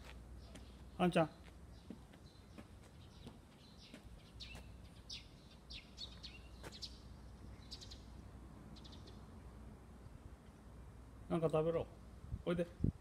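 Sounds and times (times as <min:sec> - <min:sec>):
faint birds chirping: 0:00.0 - 0:10.8.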